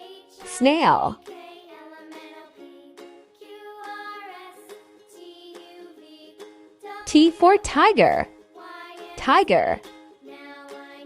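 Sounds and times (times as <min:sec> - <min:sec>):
light children's background music: 0:00.0 - 0:11.0.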